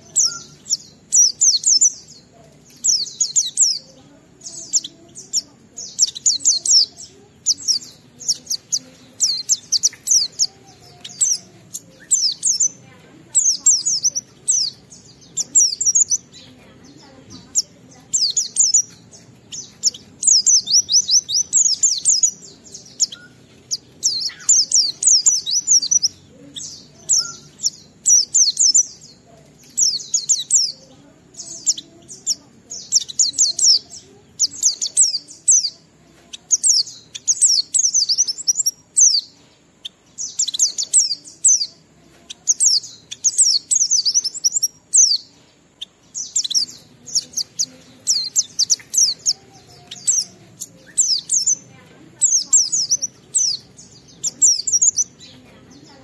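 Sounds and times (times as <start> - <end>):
bird singing warbled phrases: 0.0 - 56.0.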